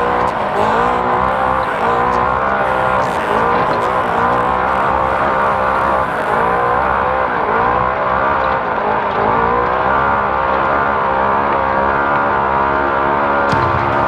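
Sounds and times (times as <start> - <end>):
car movement noise: 0.0 - 14.0
race car engine running hard: 0.0 - 14.0.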